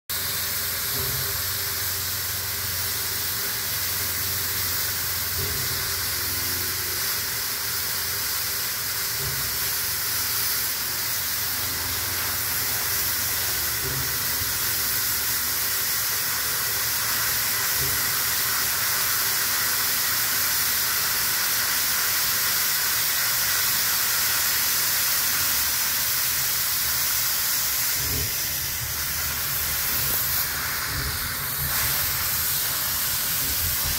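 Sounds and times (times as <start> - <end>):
steam hissing from locomotive: 0.1 - 33.9.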